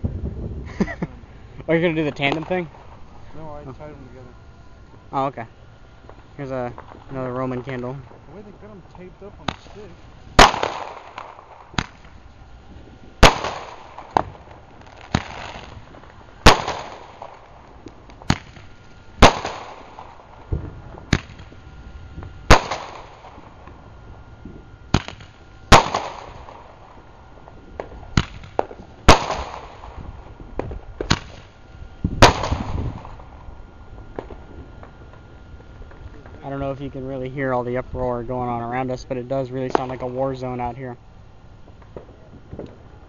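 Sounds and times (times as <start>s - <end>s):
fireworks exploding: 0.0s - 43.0s.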